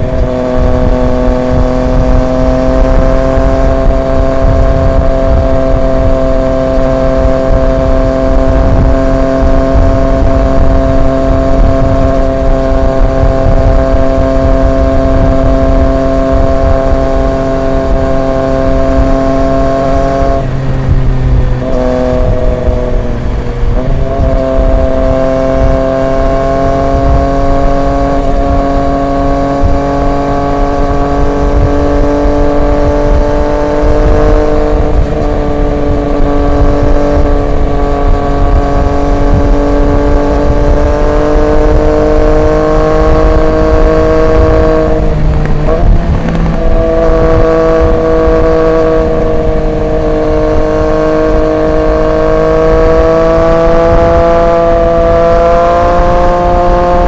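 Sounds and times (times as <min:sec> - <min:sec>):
low wind rumble: 0:00.0 - 0:57.0
motorcycle engine revving: 0:00.0 - 0:57.0.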